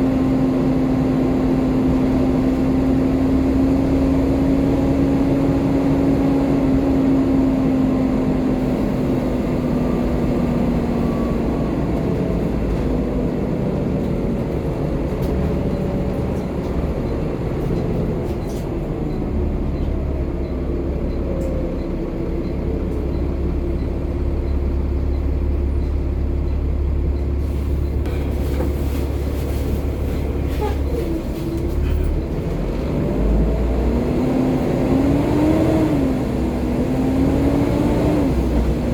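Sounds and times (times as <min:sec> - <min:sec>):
diesel bus engine rumbling: 0:00.0 - 0:38.9.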